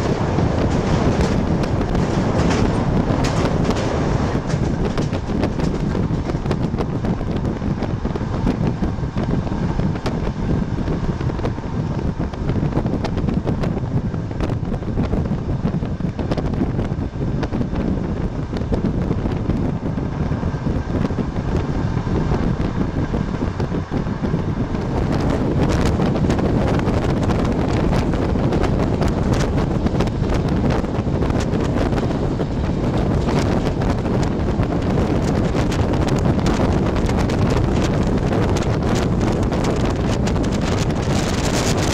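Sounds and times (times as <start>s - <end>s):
passenger train rumbling: 0.0s - 41.9s
wind buffeting microphone: 0.0s - 41.9s.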